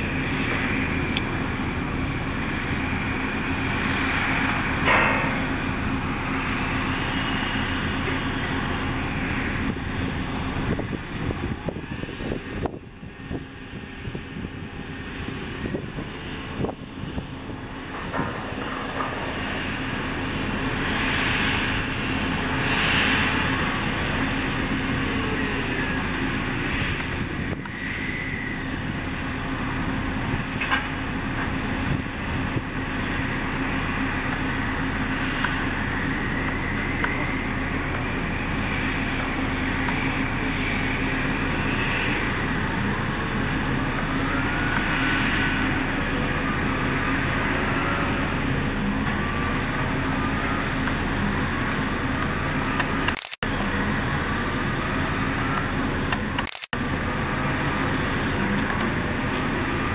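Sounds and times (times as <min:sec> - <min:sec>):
drilling rig machinery hum: 0:00.0 - 0:59.9
faint high whines: 0:00.0 - 0:59.9.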